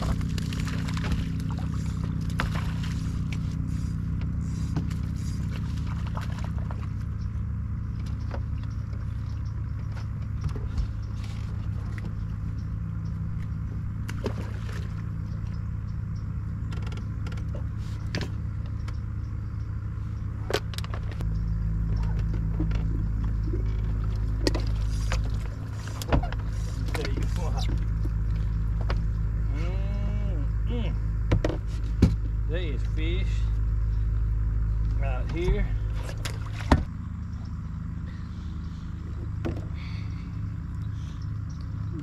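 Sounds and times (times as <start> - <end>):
boat motor humming: 0.0 - 42.0.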